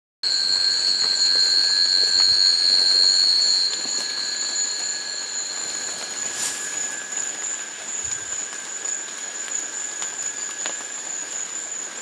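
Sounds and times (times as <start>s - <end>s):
insect chorus high trills: 0.2s - 12.0s.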